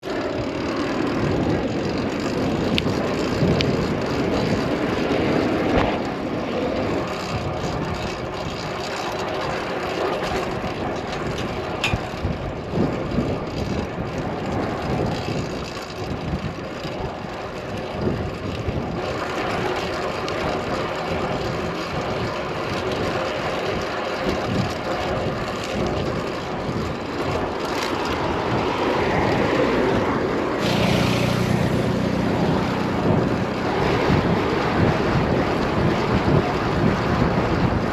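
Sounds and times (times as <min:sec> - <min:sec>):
bicycle riding wind and tyre noise: 0:00.0 - 0:37.9.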